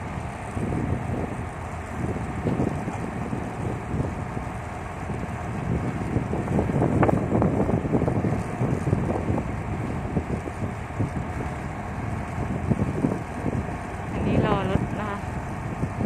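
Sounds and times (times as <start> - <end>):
excavator diesel engine working: 0.0 - 16.0
wind buffeting microphone: 0.0 - 16.0.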